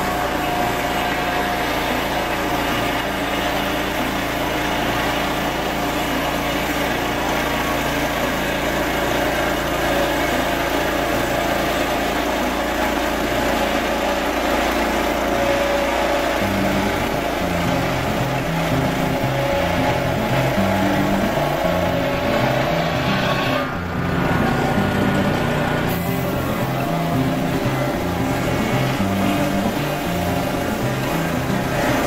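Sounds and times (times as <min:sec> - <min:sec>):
petrol engine running under load: 0:00.0 - 0:32.0
saw blade cutting log: 0:00.0 - 0:32.0.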